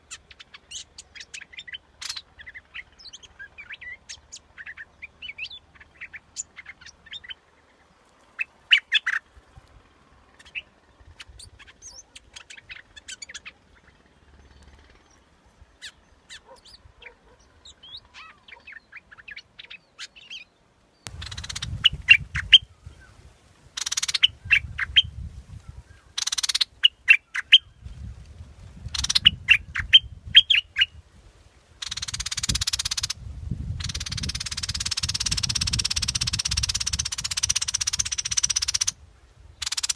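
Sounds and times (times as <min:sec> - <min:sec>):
bird chirping song: 0:00.0 - 0:31.0, 0:31.8 - 0:39.9.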